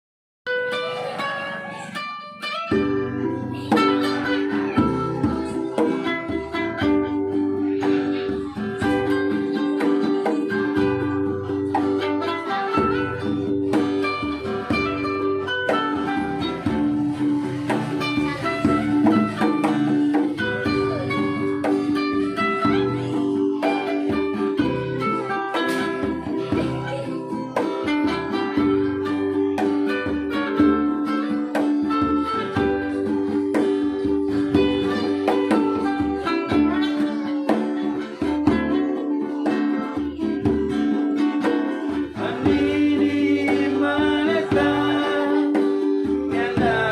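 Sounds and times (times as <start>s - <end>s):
acoustic string-band music: 0.5s - 46.9s.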